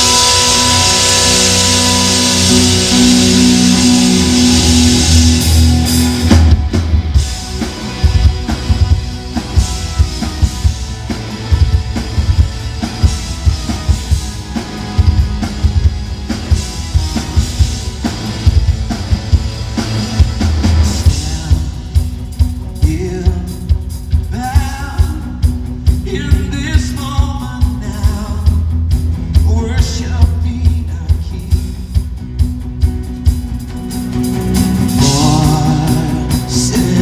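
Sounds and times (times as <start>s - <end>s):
drum kit beat: 0.0s - 37.0s
electric guitar and bass chords: 0.0s - 37.0s.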